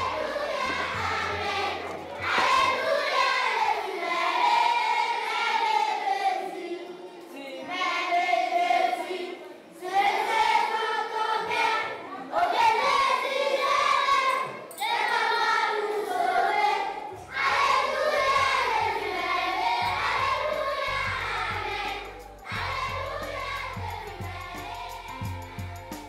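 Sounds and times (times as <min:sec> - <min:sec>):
low musical accompaniment: 0:00.0 - 0:11.2, 0:15.9 - 0:26.0
choir singing: 0:00.0 - 0:26.0.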